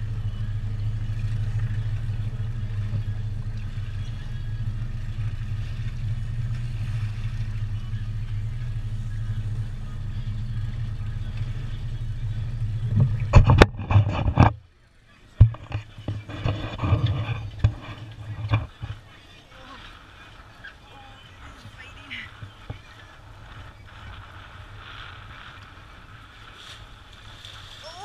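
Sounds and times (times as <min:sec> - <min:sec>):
outboard motors running: 0:00.0 - 0:28.0.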